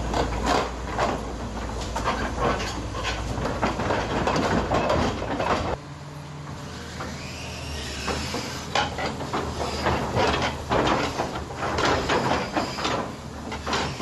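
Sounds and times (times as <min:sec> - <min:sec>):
excavator engine and hydraulics: 0:00.0 - 0:14.0
metallic clanking and rattling: 0:00.1 - 0:05.8, 0:08.1 - 0:14.0.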